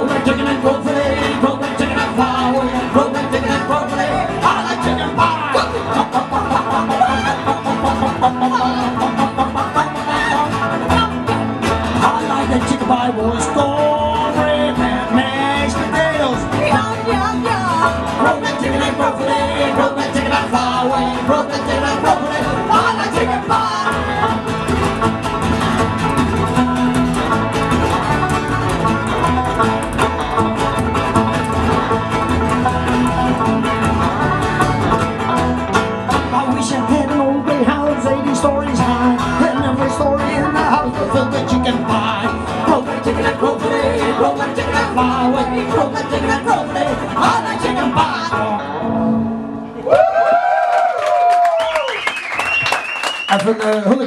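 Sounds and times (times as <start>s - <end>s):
upright double bass: 0.0s - 49.9s
acoustic guitar: 0.0s - 50.0s.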